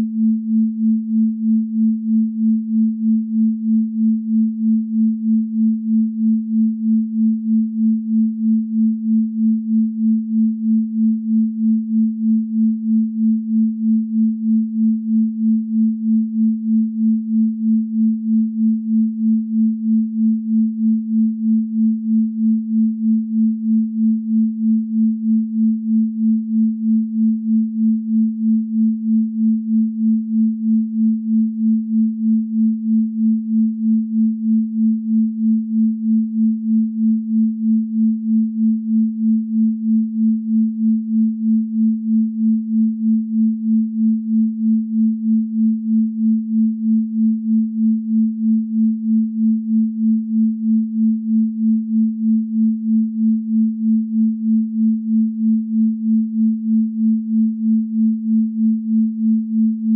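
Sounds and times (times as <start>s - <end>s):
pulsing sine tone: 0.0s - 59.9s.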